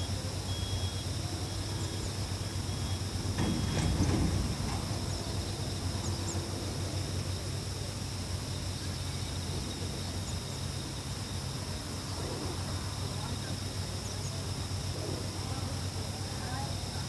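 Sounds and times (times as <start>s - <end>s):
high-pitched insect chorus: 0.0s - 17.0s
steady low hum: 0.0s - 17.0s.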